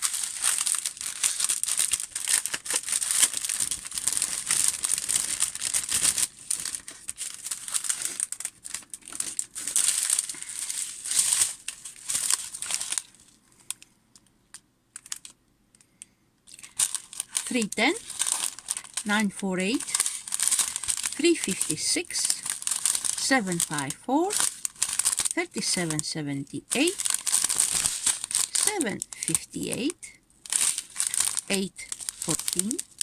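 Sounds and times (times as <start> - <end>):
plastic packaging crinkling: 0.0 - 13.9, 14.5 - 15.4, 16.5 - 33.0.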